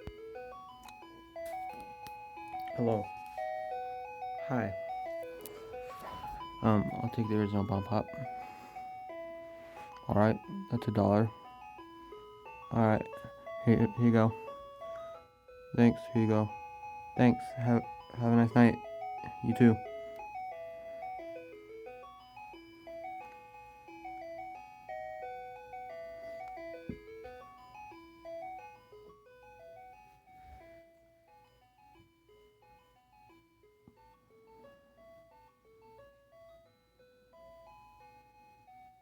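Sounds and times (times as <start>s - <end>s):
ice cream truck jingle: 0.0s - 39.0s.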